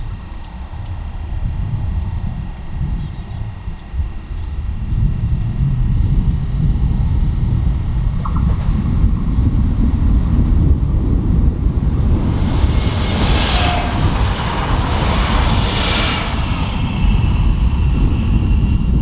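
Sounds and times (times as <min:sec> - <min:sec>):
train rumbling: 0:00.0 - 0:19.0
wheels on rails: 0:00.0 - 0:19.0.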